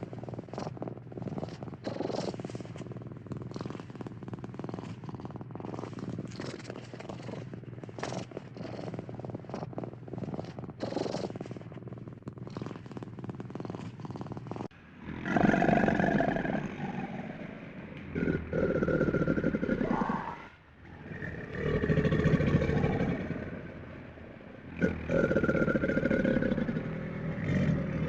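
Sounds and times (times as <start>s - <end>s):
cat purring: 0.0s - 24.0s, 24.7s - 28.0s.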